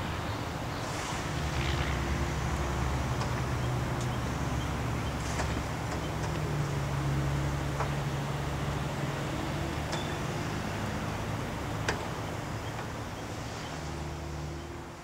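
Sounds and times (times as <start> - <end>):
freight train cars rumbling: 0.0 - 15.0.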